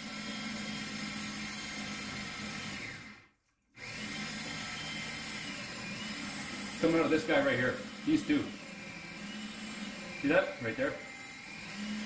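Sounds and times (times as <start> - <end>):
drill spinning oil pump: 0.0 - 12.0.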